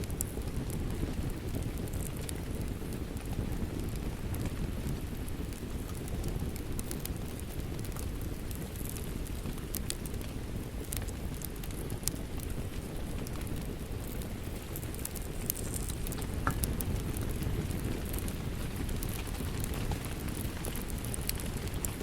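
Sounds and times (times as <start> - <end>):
fire popping: 0.0 - 22.0
steady rain: 0.0 - 22.0
wood fire crackling: 0.0 - 22.0.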